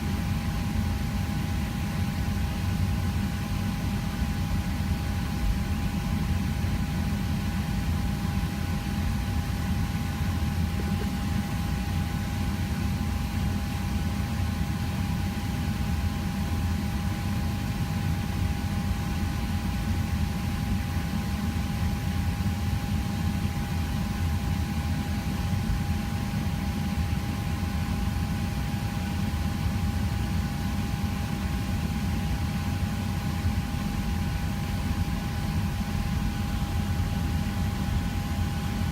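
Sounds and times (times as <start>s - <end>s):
aircraft cabin rumble and hiss: 0.0s - 38.9s
constant whine: 0.0s - 38.9s.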